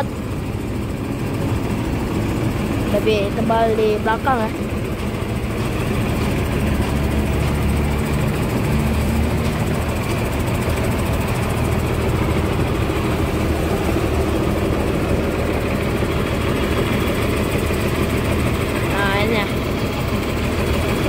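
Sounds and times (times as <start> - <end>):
diesel bus engine idling: 0.0 - 21.0.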